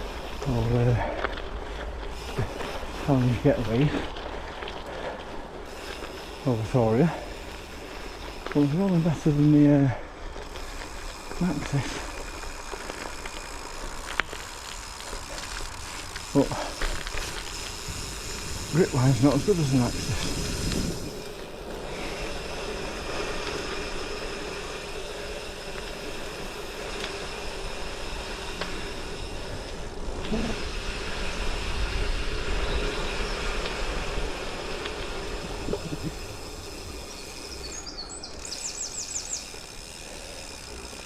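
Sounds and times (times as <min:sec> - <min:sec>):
bike tyres rolling over gravel: 0:00.0 - 0:41.0
rapid high-pitched ticks: 0:05.6 - 0:41.0.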